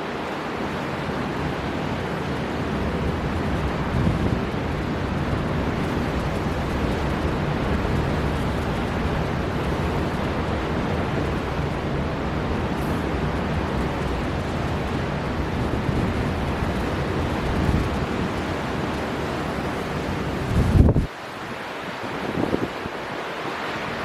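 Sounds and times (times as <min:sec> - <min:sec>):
strong storm wind: 0:00.0 - 0:24.0
waves on the shore: 0:00.0 - 0:24.0.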